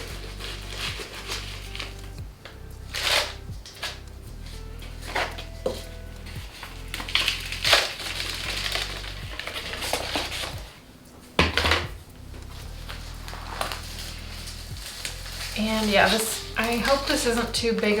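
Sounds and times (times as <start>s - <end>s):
plant pots knocking and clattering: 0.0s - 18.0s.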